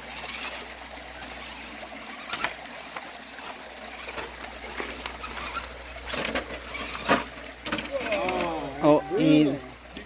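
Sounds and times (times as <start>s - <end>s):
creek trickling: 0.0s - 10.0s.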